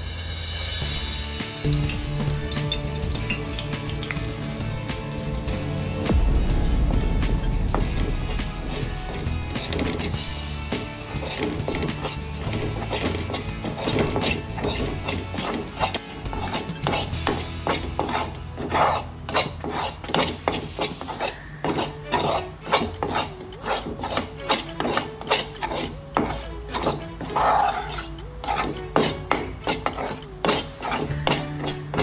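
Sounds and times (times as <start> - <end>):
metal spatula scraping frying pan: 0.9 - 6.2, 7.0 - 32.0.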